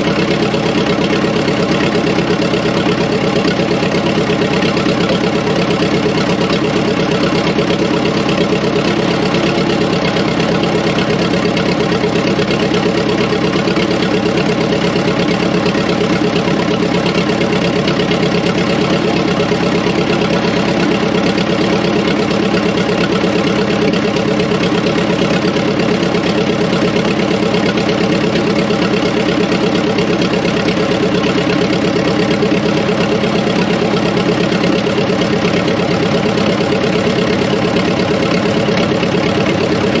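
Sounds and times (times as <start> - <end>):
tractor engine idling: 0.0 - 40.0.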